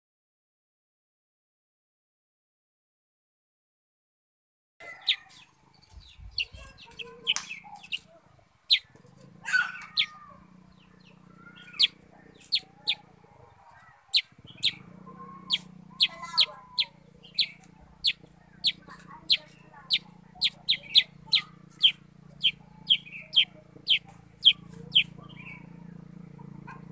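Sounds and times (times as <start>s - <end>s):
bird chipping: 4.8s - 26.9s.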